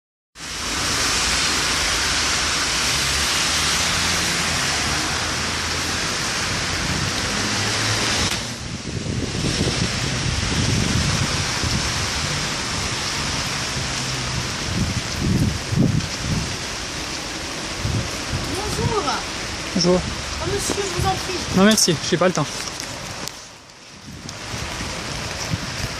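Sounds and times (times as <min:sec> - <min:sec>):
heavy rain pouring: 0:00.4 - 0:25.9.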